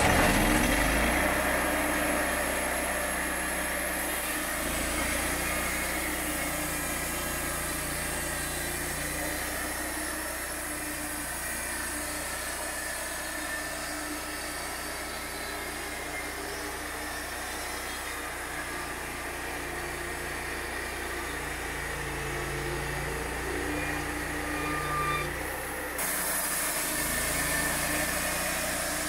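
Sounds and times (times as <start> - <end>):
sawmill engine running: 0.0 - 29.0.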